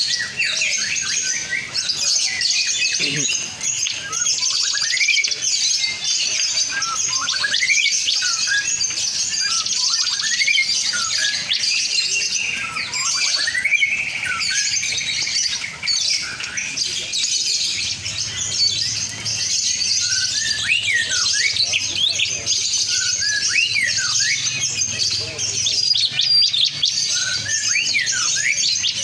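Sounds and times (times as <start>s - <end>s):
lovebirds chattering and chirping: 0.0s - 29.0s.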